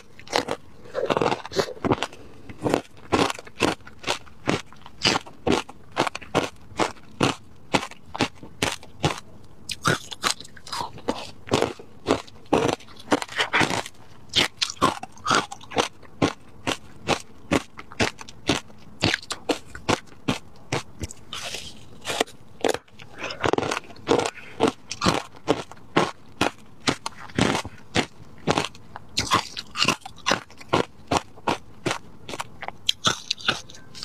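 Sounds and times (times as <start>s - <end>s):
icy crunching bites: 0.0s - 34.0s
soft chewing: 0.0s - 34.0s.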